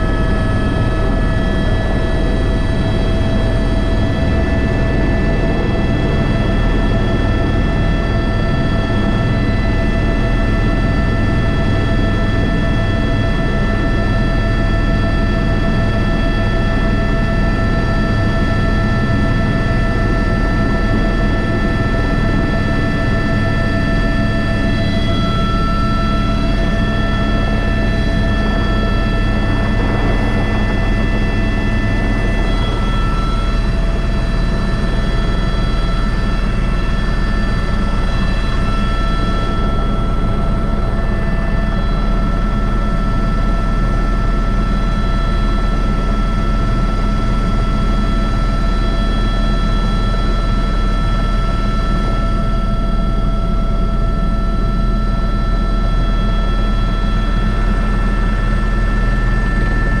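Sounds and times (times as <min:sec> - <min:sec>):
helicopter rotor and engine rumble: 0:00.0 - 1:00.0
high turbine whine: 0:00.0 - 1:00.0.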